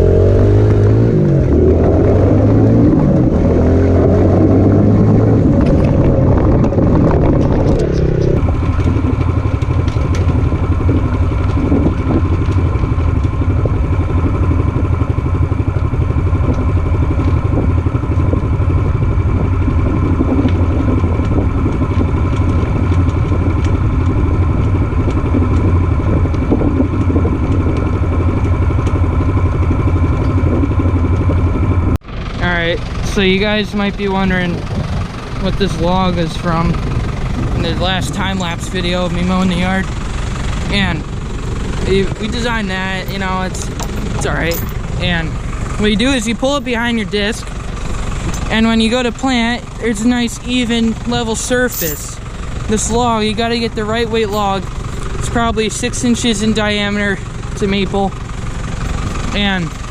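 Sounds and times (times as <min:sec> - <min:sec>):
constant whine: 0:00.0 - 0:59.9
tractor diesel engine running: 0:00.0 - 0:59.9.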